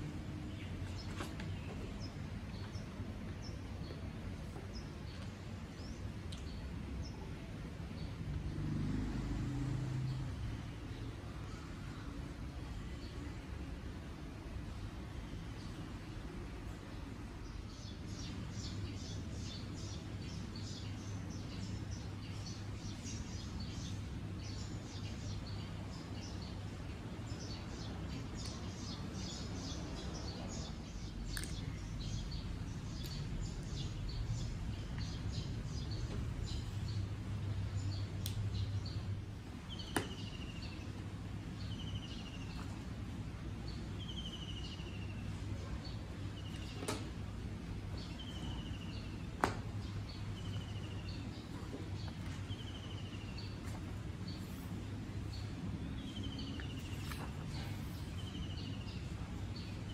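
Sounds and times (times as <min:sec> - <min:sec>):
birdsong: 0:00.0 - 0:59.9
low background hum: 0:00.0 - 0:59.9.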